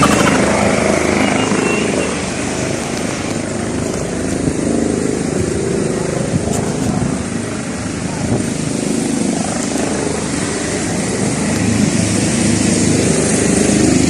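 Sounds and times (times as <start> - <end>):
steady engine noise: 0.0 - 14.0.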